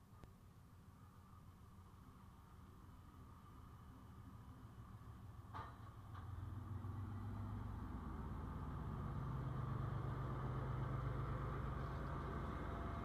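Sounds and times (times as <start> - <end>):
diesel locomotive engine drone: 0.7 - 13.0.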